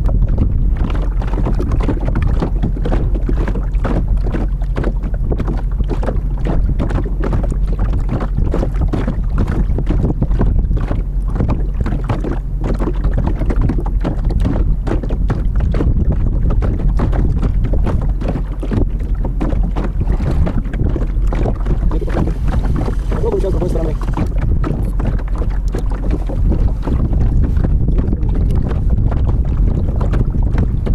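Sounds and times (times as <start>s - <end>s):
water lapping against boat hull: 0.0s - 30.9s
wind buffeting microphone: 0.0s - 30.9s.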